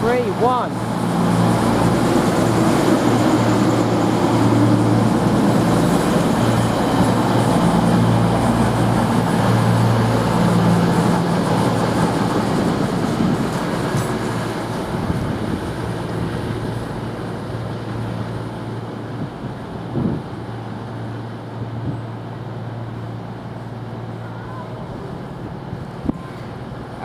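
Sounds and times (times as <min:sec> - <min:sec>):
diesel engines droning: 0:00.0 - 0:27.0
train rumble: 0:00.0 - 0:27.0.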